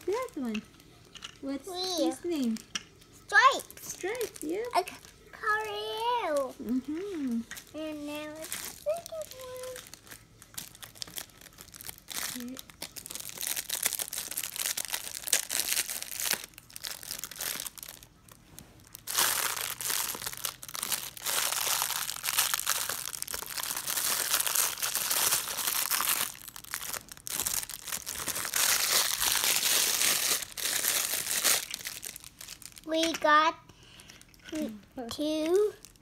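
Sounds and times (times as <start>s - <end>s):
packaging crinkling and tearing: 1.7s - 5.3s, 5.9s - 33.2s, 35.4s - 36.0s.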